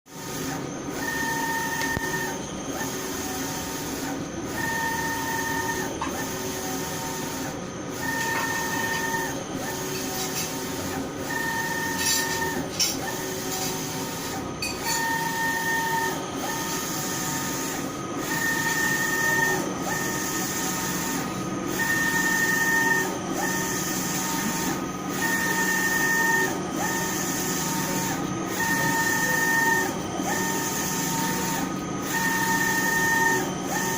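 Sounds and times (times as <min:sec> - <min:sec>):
printer carriage motor whining: 0:00.1 - 0:33.9.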